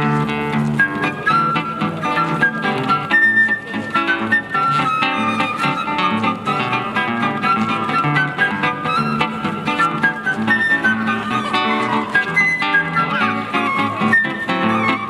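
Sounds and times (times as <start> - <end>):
flute melody: 0.0 - 15.0
plucked guitar: 0.0 - 15.0.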